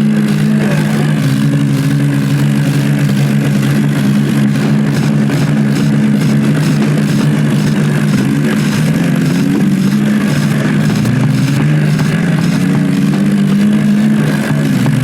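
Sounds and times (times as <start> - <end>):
diesel tractor engine droning: 0.0 - 15.0.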